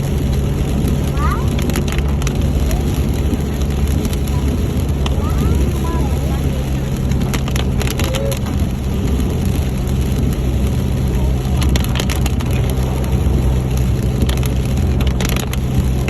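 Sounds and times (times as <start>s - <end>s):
vehicle driving drone: 0.0s - 16.0s.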